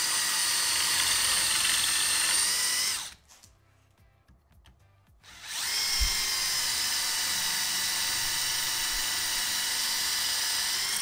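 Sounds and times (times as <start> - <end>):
power drill motor whine: 0.0 - 3.2, 5.3 - 11.0.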